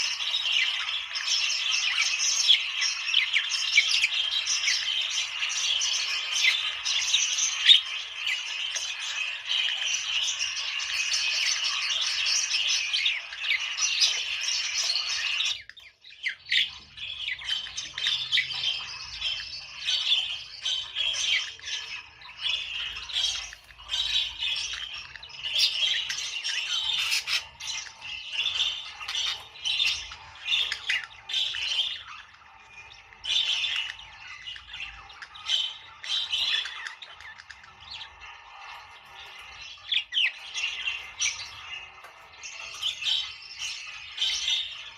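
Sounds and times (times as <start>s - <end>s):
budgerigars chattering: 0.0s - 44.9s.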